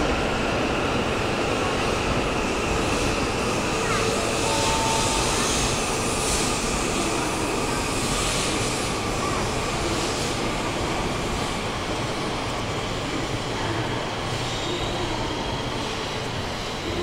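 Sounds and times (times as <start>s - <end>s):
train wheels rushing rumble: 0.0s - 17.0s.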